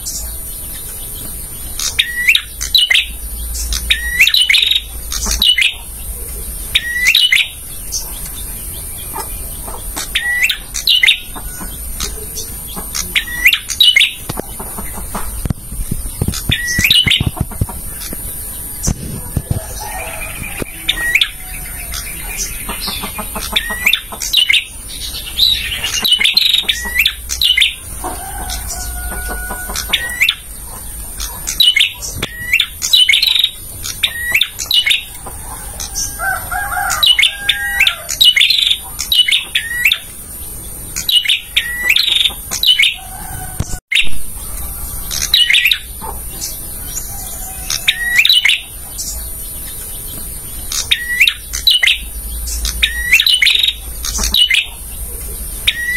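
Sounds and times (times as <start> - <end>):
small bird chirping song: 0.0 - 55.9.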